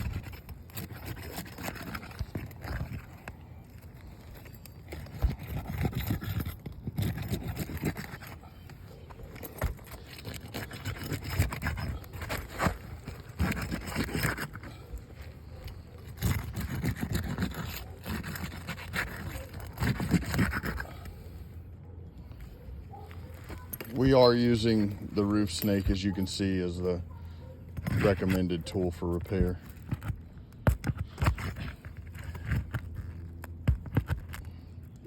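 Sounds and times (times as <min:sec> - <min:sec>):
roof tool scraping under shingles: 0:00.0 - 0:21.5, 0:23.0 - 0:27.1, 0:27.7 - 0:35.0.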